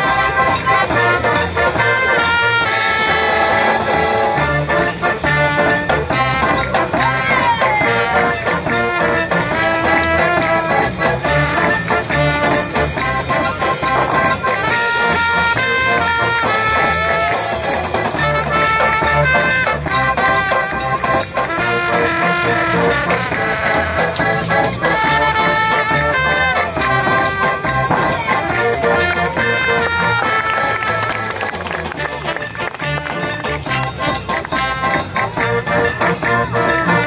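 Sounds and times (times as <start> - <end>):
accordion: 0.0 - 37.0
double bass: 0.0 - 37.0
drum kit: 0.0 - 37.0
trumpet playing tune: 0.0 - 37.0.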